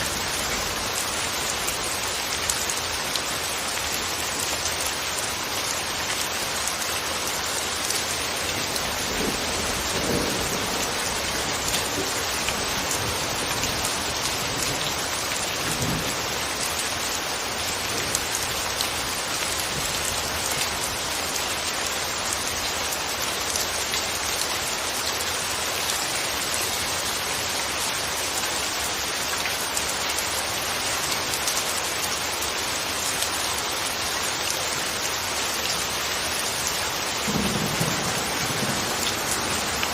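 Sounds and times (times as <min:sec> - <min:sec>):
dense rain hiss: 0:00.0 - 0:39.9
rain drop patter: 0:00.0 - 0:39.9.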